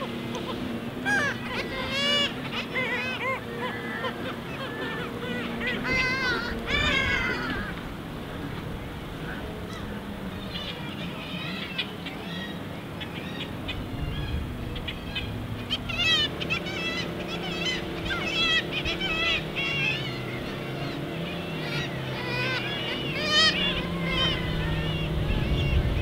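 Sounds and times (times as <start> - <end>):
kittiwakes calling: 0.0 - 26.0.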